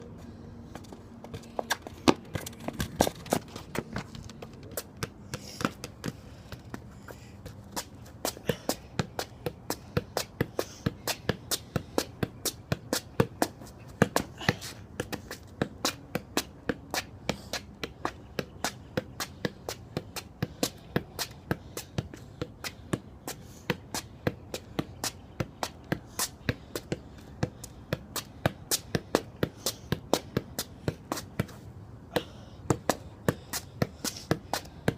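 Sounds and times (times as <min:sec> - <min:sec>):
ball tapped with a shoe: 0:00.7 - 0:34.9.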